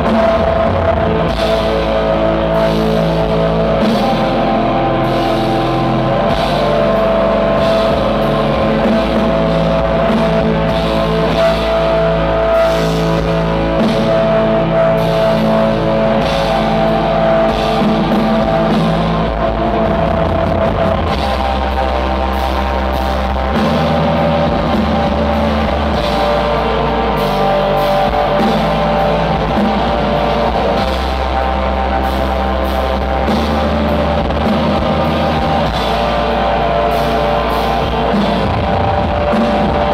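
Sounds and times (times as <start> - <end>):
distorted electric guitars: 0.0 - 39.9
drums: 0.0 - 39.9.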